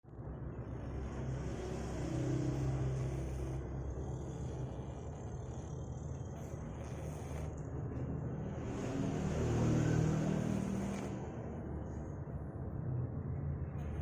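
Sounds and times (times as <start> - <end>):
cat snoring: 0.6 - 11.9.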